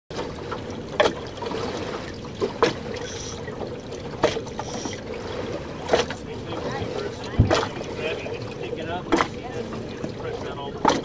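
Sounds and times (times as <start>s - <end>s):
steady motor hum: 0.1s - 11.0s
water slapping boat hull: 0.1s - 11.0s.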